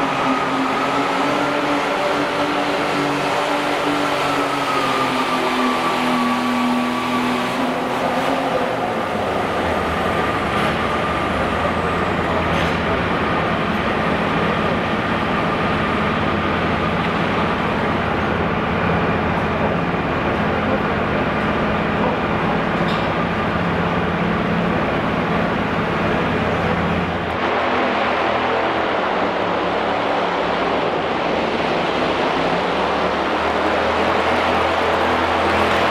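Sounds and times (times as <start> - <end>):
diesel tractor engine: 0.0 - 35.9.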